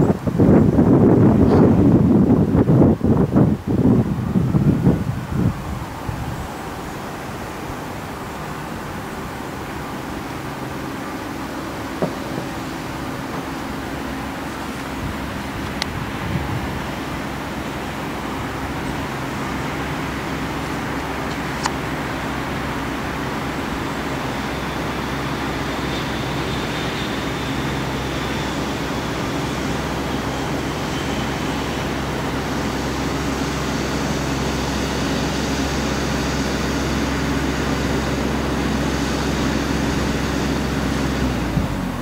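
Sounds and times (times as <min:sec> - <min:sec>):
low mechanical rumble with hiss: 0:00.0 - 0:42.0.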